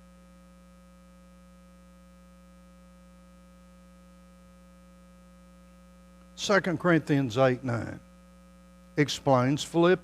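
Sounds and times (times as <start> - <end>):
faint electrical mains hum: 0.0 - 10.0.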